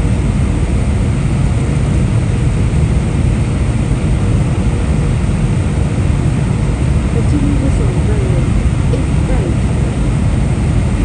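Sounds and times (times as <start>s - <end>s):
airplane cabin engine rumble: 0.0s - 11.0s
faint steady hum: 0.0s - 11.0s.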